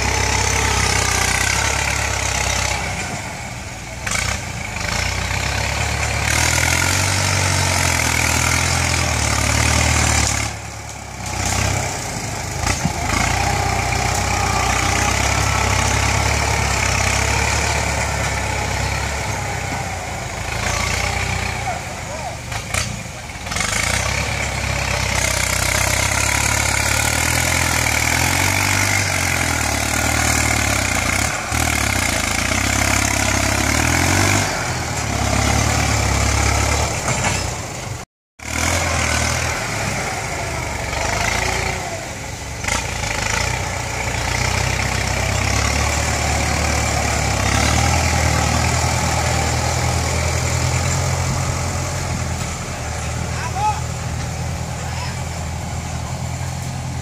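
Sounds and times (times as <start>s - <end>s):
tractor diesel engine working: 0.0s - 57.0s.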